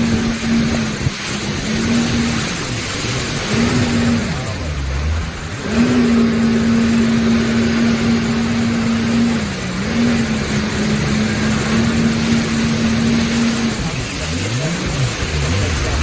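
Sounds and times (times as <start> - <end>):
jet ski engine running: 0.0 - 16.0
rushing water: 0.0 - 16.0.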